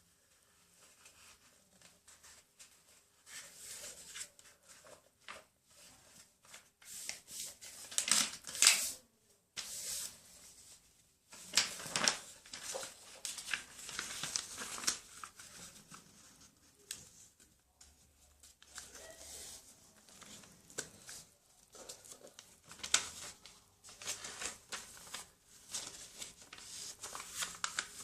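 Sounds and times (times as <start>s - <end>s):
paper rustling and crinkling: 0.2s - 9.0s, 9.6s - 28.0s.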